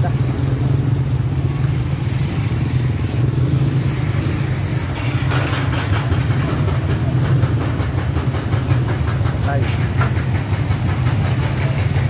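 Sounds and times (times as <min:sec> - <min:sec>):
motorcycle tricycle engines idling: 0:00.0 - 0:12.0.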